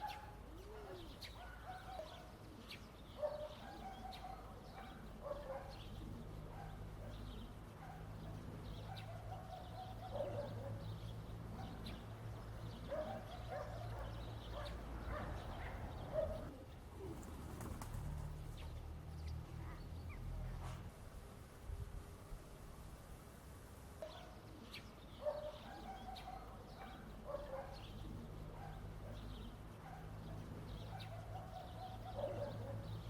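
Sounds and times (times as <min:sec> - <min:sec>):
birds calling: 0:00.0 - 0:20.6, 0:24.0 - 0:33.0.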